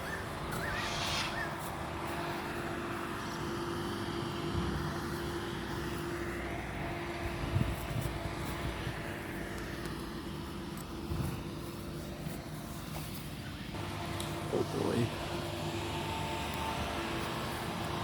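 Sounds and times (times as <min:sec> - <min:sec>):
steady engine drone: 0:00.0 - 0:18.0.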